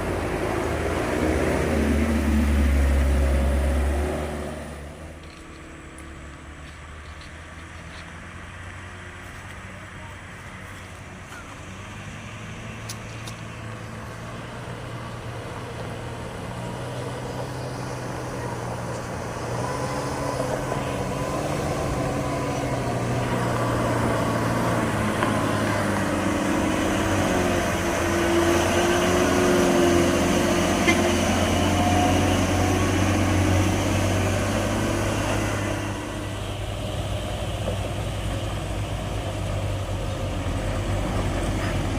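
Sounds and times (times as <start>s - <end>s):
truck diesel engine labouring: 0.0s - 41.9s.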